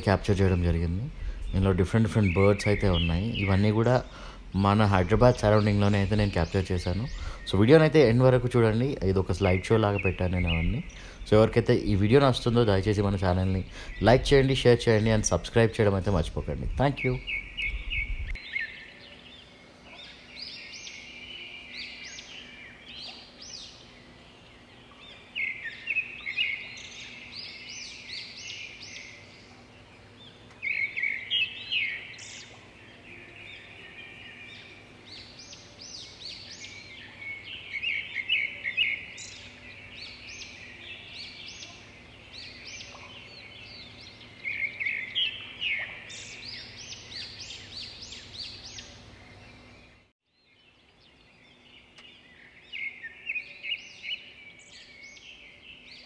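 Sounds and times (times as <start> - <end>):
faint low hum: 0.0 - 50.1
birds chirping and twittering: 0.0 - 56.0.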